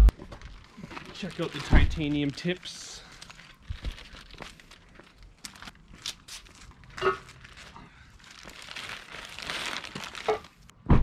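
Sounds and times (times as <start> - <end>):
plastic bags crinkling: 0.1 - 10.7.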